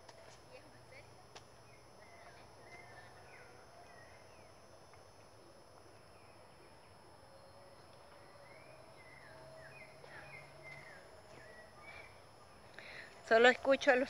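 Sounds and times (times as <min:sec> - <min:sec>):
distant birds chirping: 0:01.6 - 0:14.0.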